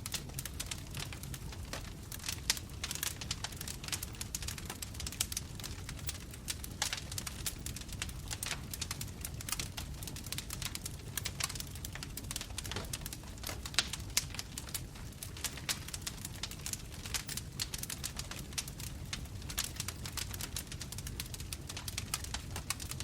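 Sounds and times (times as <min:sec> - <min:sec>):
bonfire crackling and popping: 0:00.0 - 0:23.0
low rumble of flames: 0:00.0 - 0:23.0.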